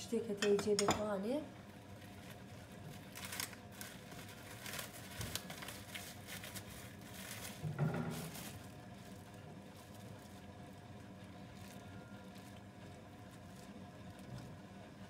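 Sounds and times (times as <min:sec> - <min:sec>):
cling film crinkling: 0:01.6 - 0:15.0.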